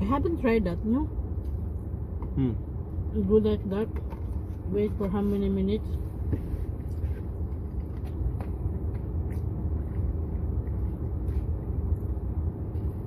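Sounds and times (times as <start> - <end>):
car rumble inside cabin: 0.0 - 13.0.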